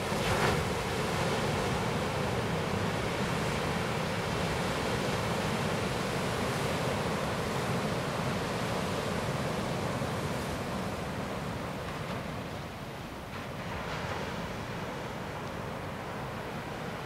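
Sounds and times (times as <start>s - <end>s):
sea surf washing: 0.0s - 17.0s.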